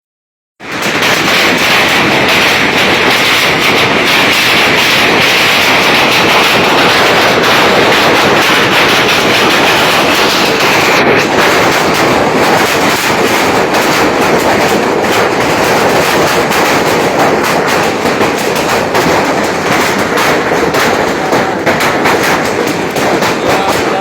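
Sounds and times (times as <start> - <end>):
hail clattering: 0.6 - 24.0.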